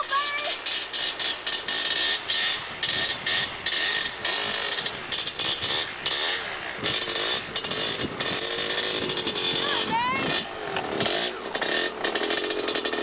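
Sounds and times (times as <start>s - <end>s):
tyres spinning on snow: 0.0s - 13.0s
vehicle engine revving: 0.6s - 13.0s.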